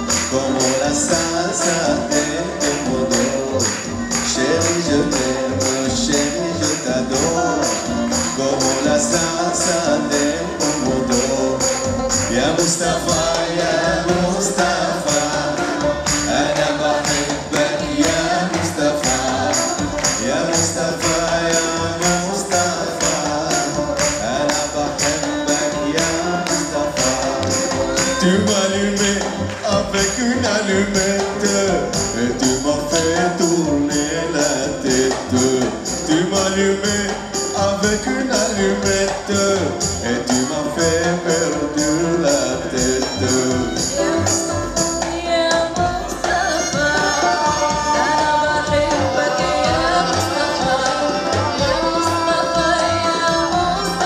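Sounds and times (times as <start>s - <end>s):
banjo: 0.0s - 54.0s
double bass: 0.0s - 54.0s
kamanche: 0.0s - 54.0s
percussion beat: 0.0s - 54.0s.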